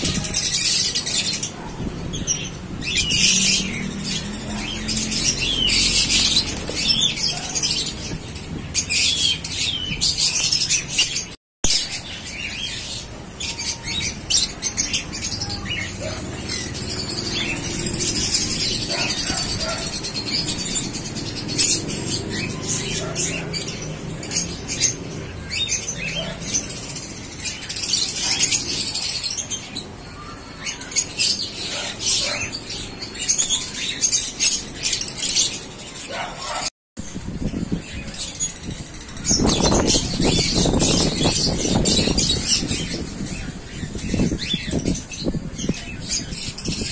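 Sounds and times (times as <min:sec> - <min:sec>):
lovebirds chirping and squeaking: 0:00.0 - 0:46.9.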